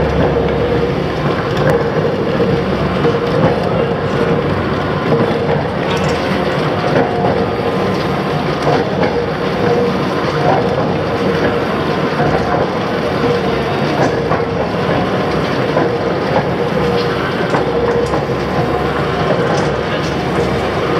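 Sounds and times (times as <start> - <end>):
constant machine hum: 0.0 - 20.9
crank press rumbling: 0.0 - 20.9.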